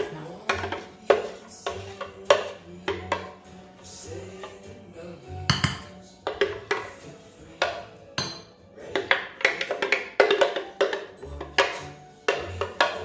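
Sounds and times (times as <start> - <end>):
utensil clinking on blender jar: 0.0 - 4.7, 5.5 - 13.0.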